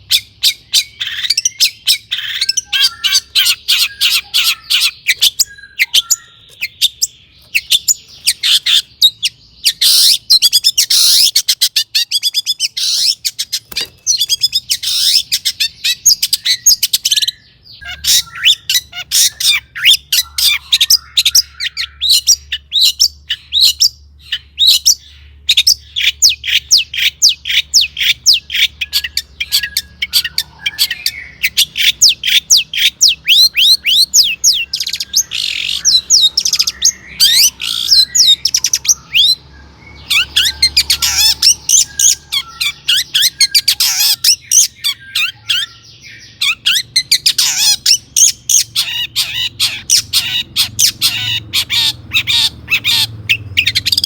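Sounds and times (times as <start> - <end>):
shrike singing harsh chirps: 0.0 - 23.8, 24.4 - 54.0.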